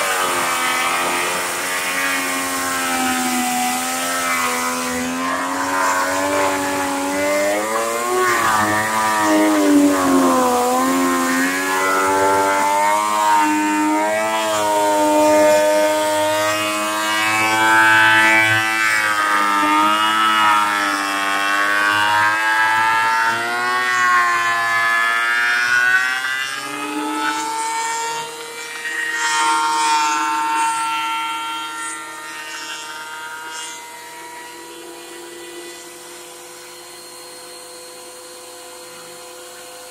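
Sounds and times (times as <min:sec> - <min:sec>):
thickness planer cutting wood: 0:00.0 - 0:39.9.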